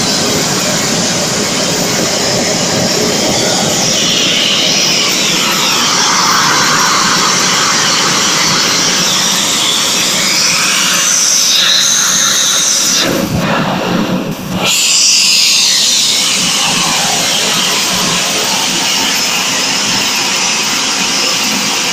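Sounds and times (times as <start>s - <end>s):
high wavering whine: 0.0s - 21.9s
model jet engine roaring: 0.0s - 21.9s.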